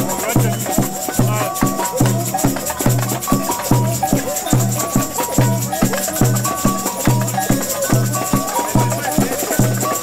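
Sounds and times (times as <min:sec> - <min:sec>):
bass drums beating: 0:00.0 - 0:10.0
two-note bell pattern: 0:00.0 - 0:10.0.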